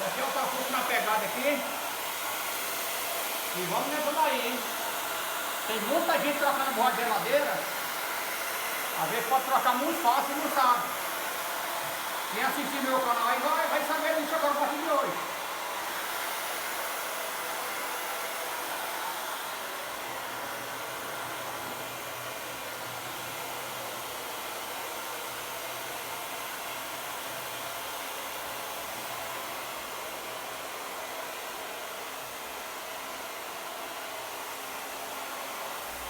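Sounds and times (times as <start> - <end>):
hot-air blower running: 0.0 - 36.0.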